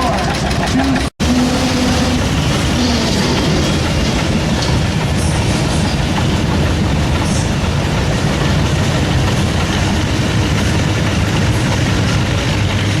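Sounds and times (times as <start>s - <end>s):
tractor engine roaring: 0.0s - 13.0s.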